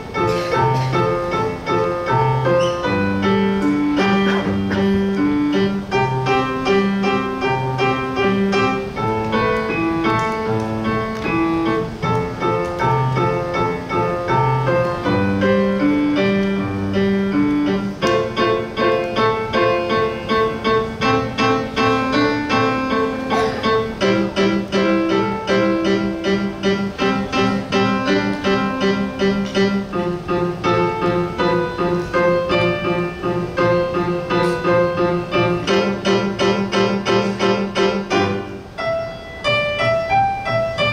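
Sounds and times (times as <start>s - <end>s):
solo piano: 0.0s - 40.9s.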